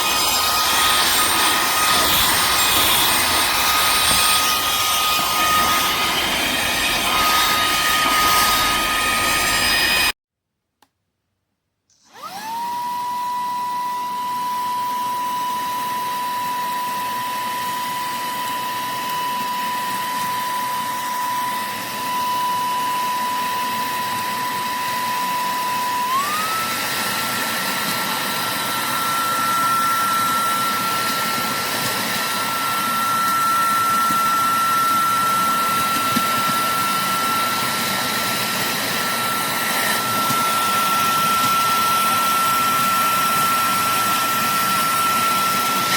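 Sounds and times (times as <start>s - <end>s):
handheld vacuum cleaner whine: 0.0s - 10.2s, 11.9s - 45.9s.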